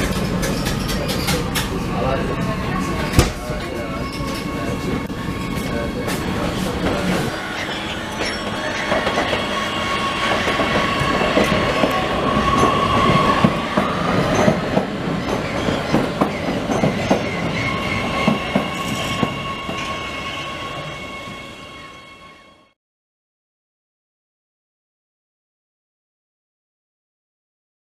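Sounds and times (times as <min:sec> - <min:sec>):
metro train whine: 0:00.0 - 0:22.8.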